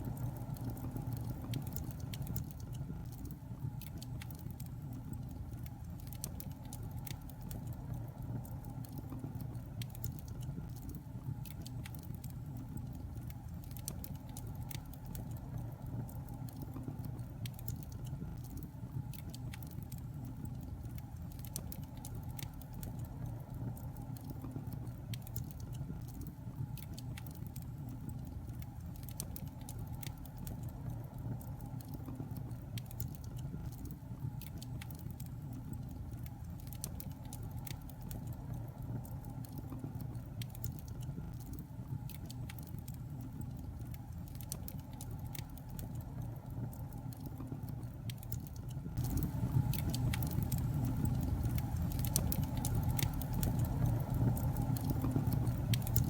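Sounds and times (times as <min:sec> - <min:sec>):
fire crackles and pops: 0:00.0 - 0:56.0
fire rumbling in fireplace: 0:00.0 - 0:56.0.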